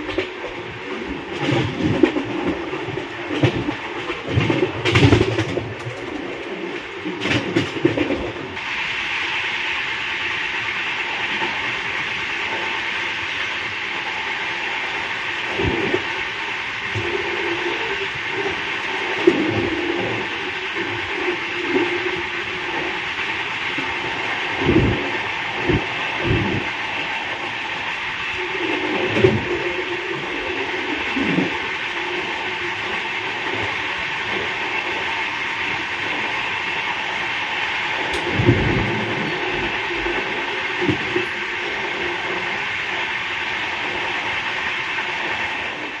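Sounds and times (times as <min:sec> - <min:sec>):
train wheels rushing on rails: 0:00.0 - 0:46.0.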